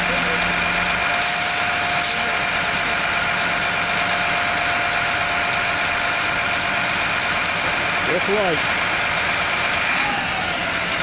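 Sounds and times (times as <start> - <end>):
diesel bus engine idling: 0.0 - 11.0.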